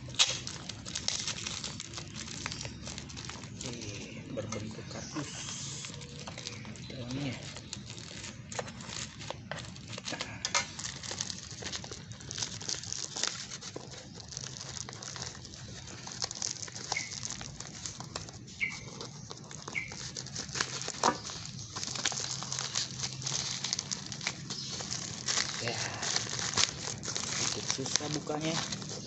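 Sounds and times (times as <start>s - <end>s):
cardboard box being opened: 0.0s - 29.0s.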